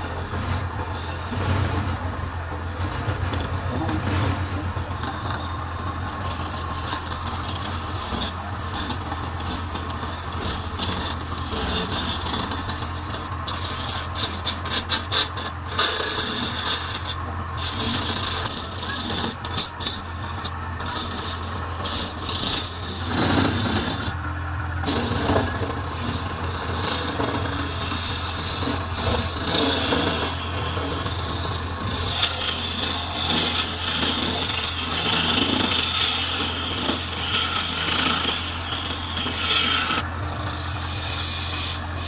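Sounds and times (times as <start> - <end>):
chisel scraping spinning wood: 0.0 - 42.0
lathe motor hum: 0.0 - 42.0.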